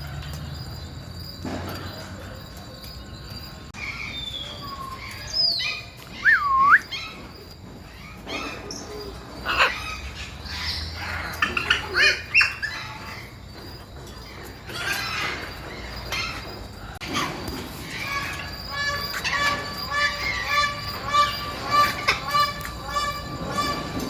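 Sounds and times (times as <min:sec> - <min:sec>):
birds chirping: 0:00.0 - 0:24.0
birds whistling calls: 0:00.0 - 0:24.0.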